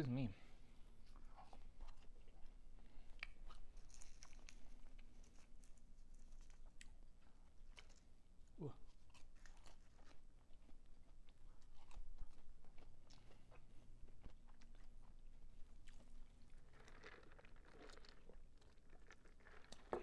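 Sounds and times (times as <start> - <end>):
person chewing crisp food: 1.0 - 20.0.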